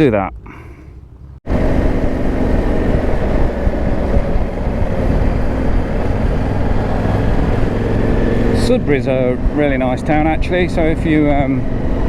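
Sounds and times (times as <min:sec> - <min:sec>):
motorcycle engine running: 0:01.0 - 0:12.0
wind rushing over microphone: 0:01.5 - 0:12.0.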